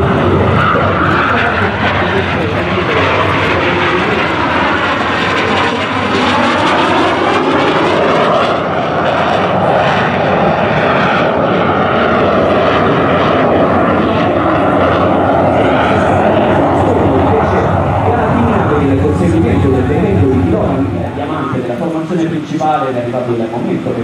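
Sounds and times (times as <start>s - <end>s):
jet engine roaring overhead: 0.0s - 24.0s.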